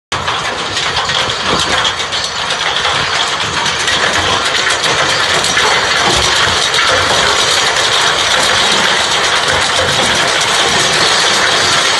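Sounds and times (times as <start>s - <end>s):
tractor engine running: 0.1s - 11.9s
stones rattling against metal: 0.2s - 11.9s.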